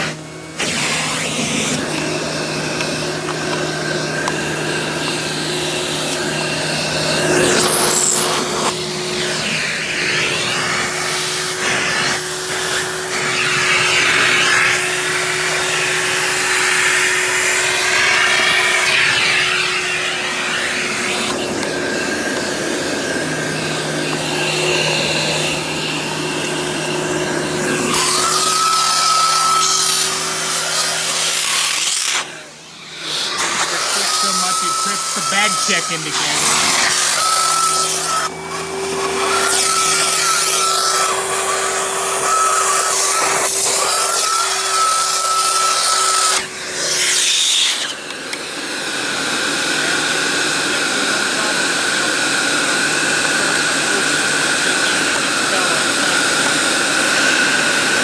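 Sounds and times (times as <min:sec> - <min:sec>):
vacuum motor hum: 0:00.0 - 0:58.0.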